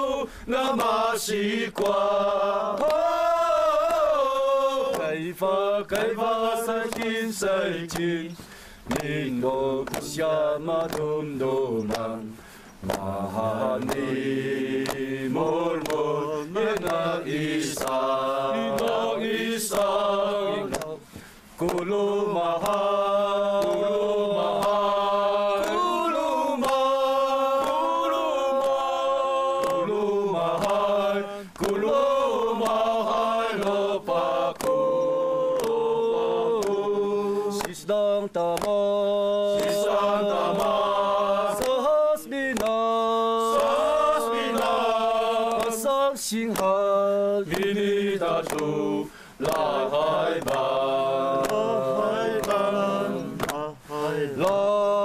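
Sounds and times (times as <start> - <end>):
person singing slowly: 0.0 - 55.0.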